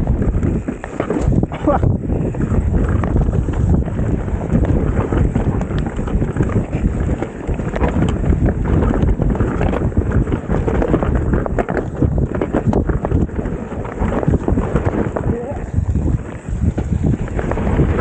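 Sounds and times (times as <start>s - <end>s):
bike rattling over bumps: 0.0s - 18.0s
tyres rolling on dirt trail: 0.0s - 18.0s
wind buffeting microphone: 0.0s - 18.0s.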